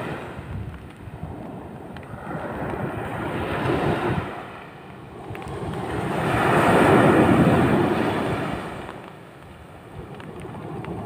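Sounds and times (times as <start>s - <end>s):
ocean waves breaking on sand: 0.0s - 11.0s.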